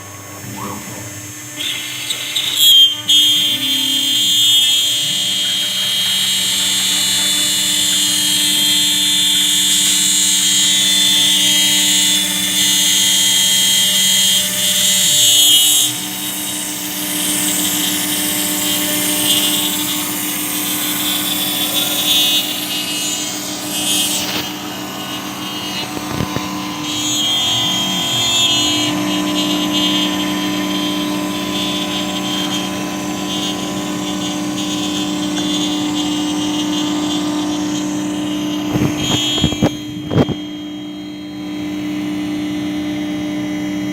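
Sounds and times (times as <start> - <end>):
router spindle whining: 0.0 - 43.9.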